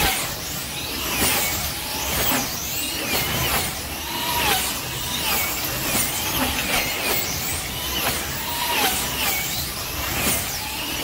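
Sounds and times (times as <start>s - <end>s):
slot car electric motors whining: 0.0s - 11.0s.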